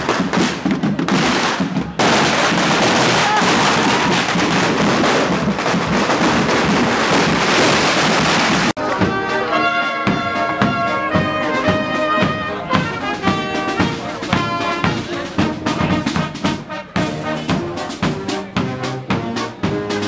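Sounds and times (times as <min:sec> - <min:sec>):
brass band playing: 0:00.0 - 0:20.0
drum beat: 0:00.0 - 0:20.0
street crowd noise: 0:00.0 - 0:20.0.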